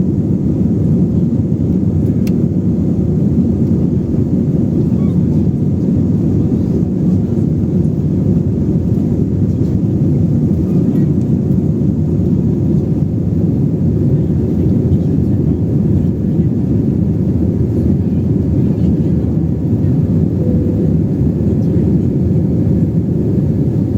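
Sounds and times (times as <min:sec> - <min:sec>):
jet engines rumbling in cabin: 0:00.0 - 0:23.9.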